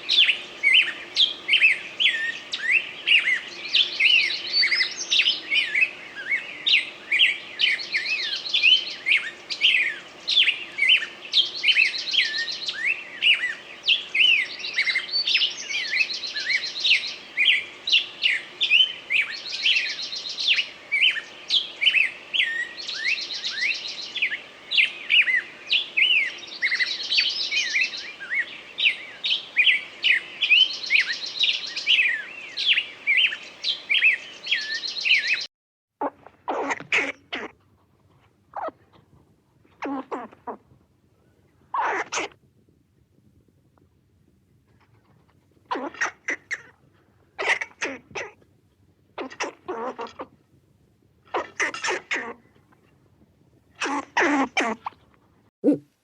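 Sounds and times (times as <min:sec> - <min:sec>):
birds chirping and trilling: 0:00.0 - 0:37.6, 0:38.5 - 0:39.0, 0:39.7 - 0:40.7, 0:41.4 - 0:42.4, 0:44.7 - 0:46.8, 0:49.2 - 0:50.4, 0:51.3 - 0:53.0.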